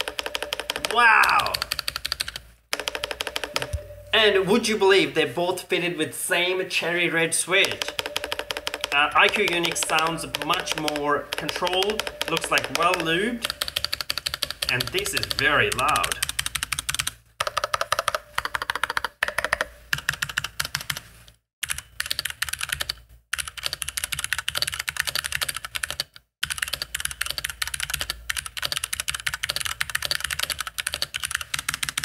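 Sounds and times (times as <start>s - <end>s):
fast typing on mechanical keyboard: 0.0s - 3.7s, 7.6s - 32.0s.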